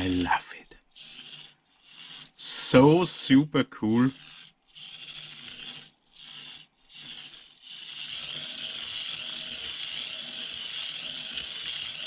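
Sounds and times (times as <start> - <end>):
small electric motor whirring: 0.9 - 3.0, 3.9 - 12.0.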